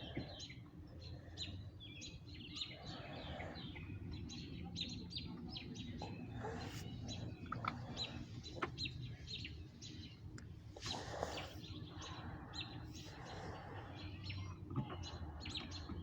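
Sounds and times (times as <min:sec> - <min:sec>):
birds chirping: 0:00.0 - 0:16.0
low background rumble: 0:00.0 - 0:16.0.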